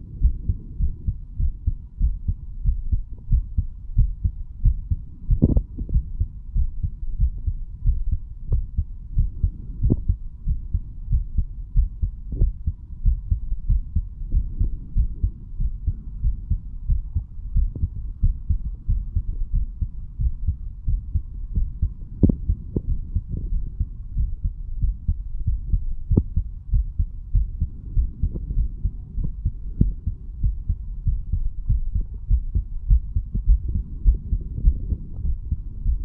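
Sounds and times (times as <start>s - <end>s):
heartbeat low dull thuds: 0.0s - 36.0s.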